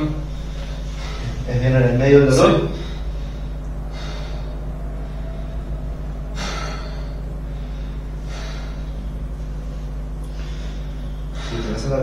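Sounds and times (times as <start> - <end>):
man breathing heavily: 0.0 - 12.0
steady low hum: 0.0 - 12.0.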